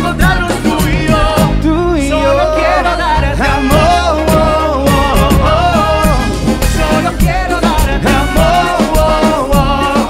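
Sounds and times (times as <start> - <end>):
congas: 0.0 - 10.0
drum kit beat: 0.0 - 10.0
live latin band music: 0.0 - 10.0.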